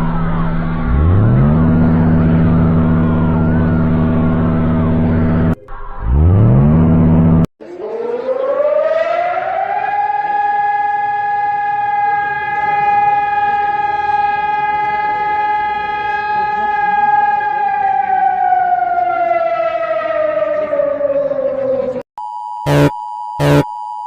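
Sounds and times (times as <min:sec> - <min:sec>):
civil defense siren: 0:00.0 - 0:22.0.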